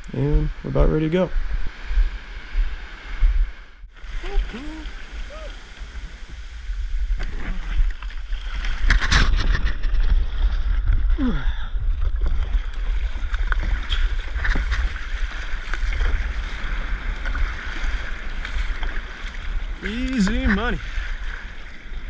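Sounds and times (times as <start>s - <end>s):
wind rumble on microphone: 0.0s - 22.0s
paddle blades splashing: 1.5s - 11.1s, 11.9s - 22.0s
water washing around hull: 1.5s - 22.0s.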